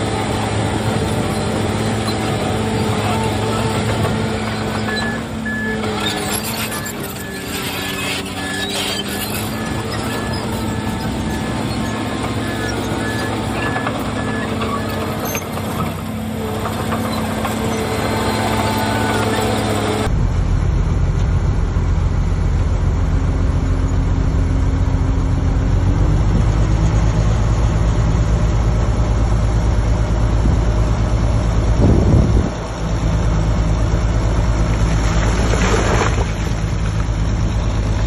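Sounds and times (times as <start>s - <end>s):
diesel machinery engine rumble: 0.0s - 38.0s.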